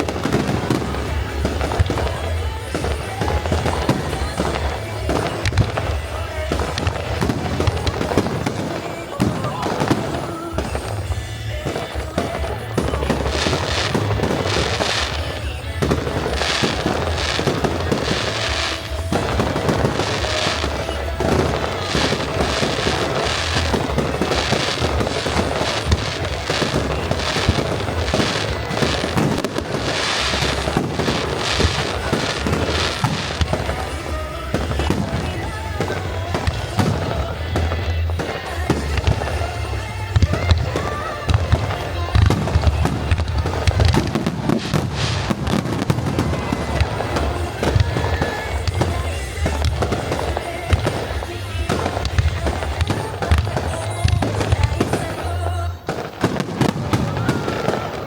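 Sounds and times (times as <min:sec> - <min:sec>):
fireworks bursting and crackling: 0:00.0 - 0:58.0
music: 0:00.0 - 0:58.0.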